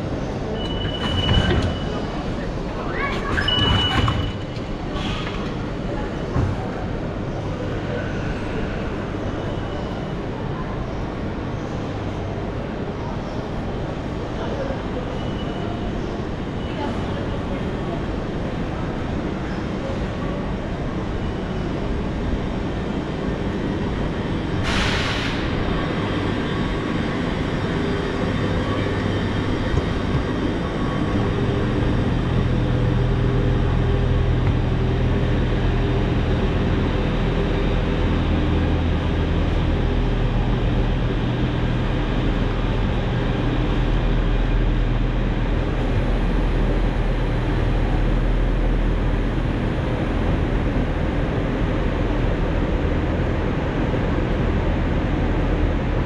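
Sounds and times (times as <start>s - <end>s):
passenger train rumbling: 0.0s - 56.0s.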